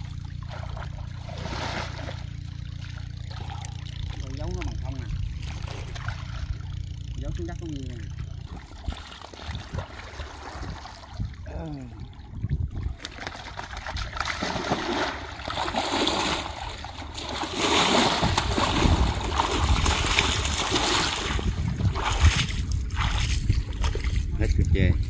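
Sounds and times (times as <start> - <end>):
muddy water splashing: 0.0 - 25.0.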